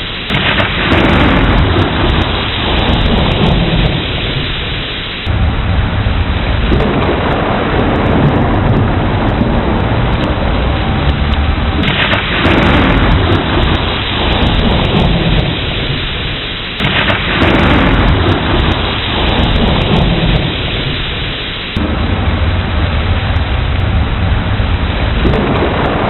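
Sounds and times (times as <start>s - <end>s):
heavy rain: 0.0s - 26.0s
thunder rolling: 0.0s - 26.0s.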